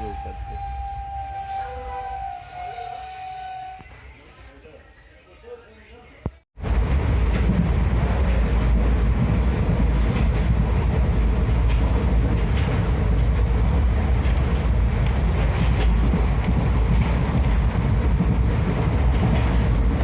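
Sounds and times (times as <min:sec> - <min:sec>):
train rumbling on rails: 0:00.0 - 0:04.2, 0:06.6 - 0:20.0.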